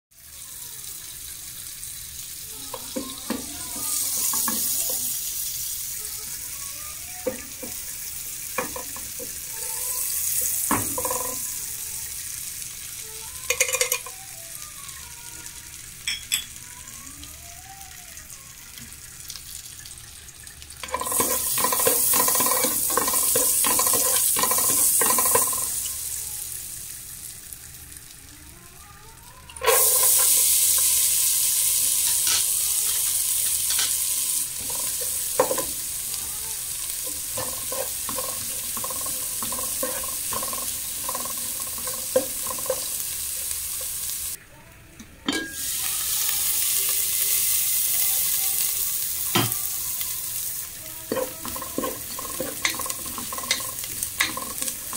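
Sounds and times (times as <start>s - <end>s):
butter sizzling in a pan: 0.1s - 54.9s.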